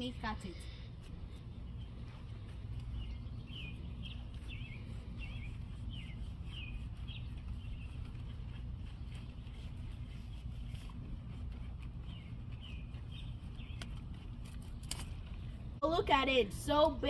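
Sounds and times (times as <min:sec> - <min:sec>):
songbird chirping: 0:00.0 - 0:15.8
steady low rumble: 0:00.0 - 0:17.0.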